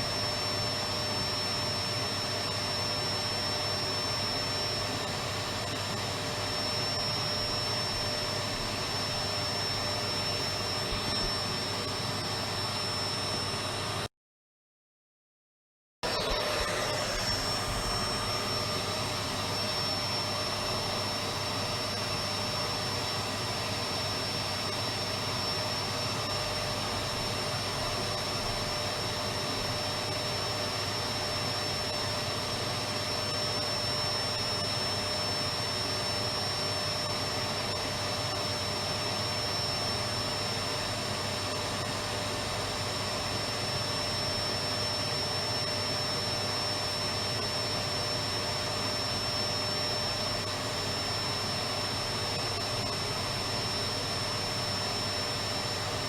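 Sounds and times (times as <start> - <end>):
vacuum cleaner running: 0.0 - 14.1, 16.0 - 56.0.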